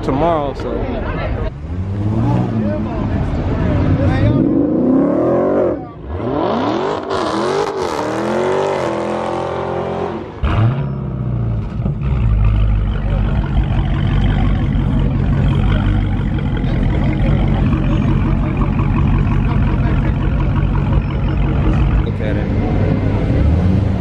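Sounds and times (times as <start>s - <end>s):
car engine revving: 1.5s - 24.0s.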